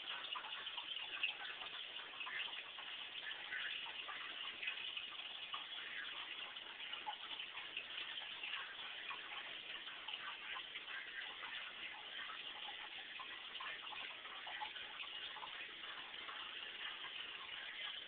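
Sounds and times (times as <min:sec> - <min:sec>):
aquarium water trickling and bubbling: 0:00.0 - 0:18.0
faint irregular ticks: 0:00.0 - 0:18.0.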